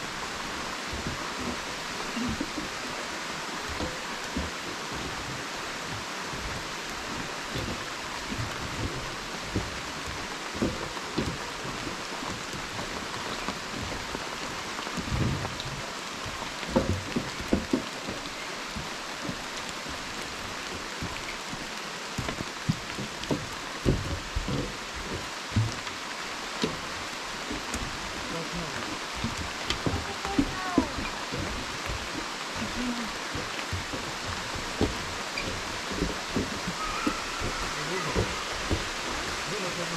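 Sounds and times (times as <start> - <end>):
rain hiss: 0.0 - 39.9
waterfall rushing: 0.0 - 39.9
dull low thumps: 3.6 - 21.6, 22.2 - 25.9, 26.6 - 39.5.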